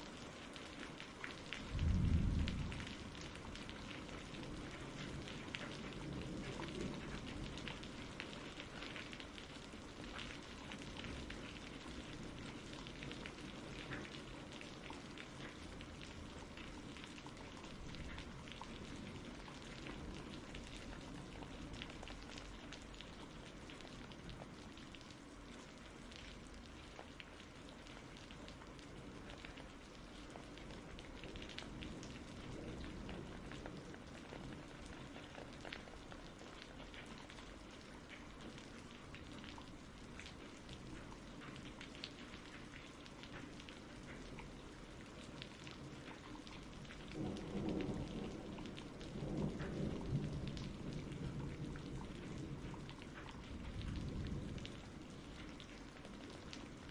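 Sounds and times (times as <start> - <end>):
raindrops pattering: 0.0 - 56.9
steady rain falling: 0.0 - 56.9
low rumble of thunder: 1.1 - 24.8, 28.6 - 56.9.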